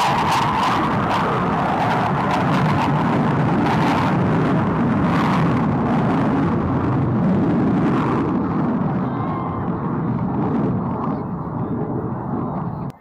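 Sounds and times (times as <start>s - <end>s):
aircraft engine roar: 0.0s - 13.0s.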